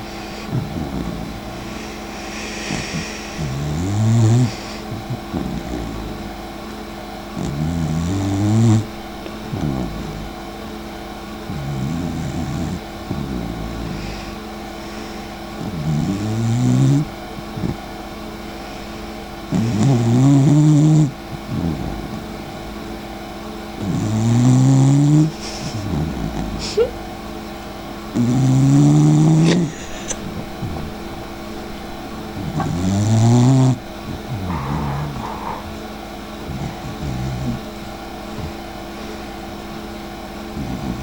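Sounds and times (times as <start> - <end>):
dog snoring: 0.0 - 41.0.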